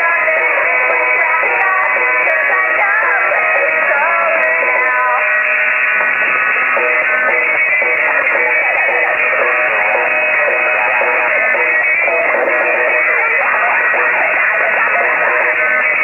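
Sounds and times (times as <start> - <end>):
muffled song with guitar: 0.0 - 16.0.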